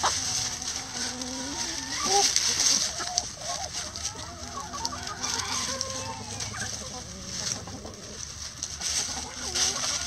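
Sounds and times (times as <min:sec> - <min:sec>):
dry leaves rustling and crackling: 0:00.0 - 0:10.0
hens clucking: 0:00.0 - 0:10.0.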